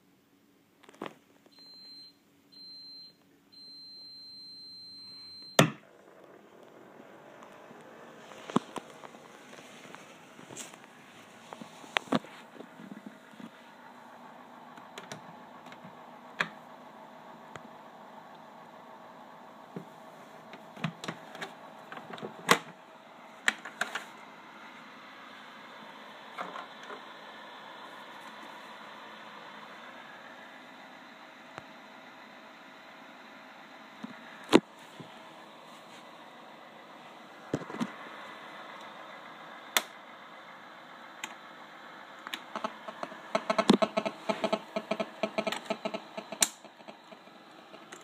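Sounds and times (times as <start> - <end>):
projector motor whirring: 5.8 - 48.0.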